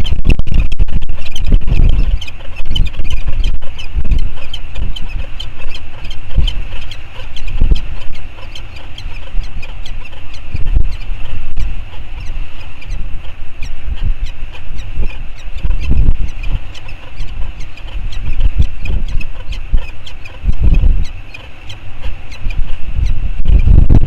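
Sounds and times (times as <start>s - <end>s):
quick high-pitched chirps: 0.0s - 23.9s
wind buffeting microphone: 0.0s - 24.0s.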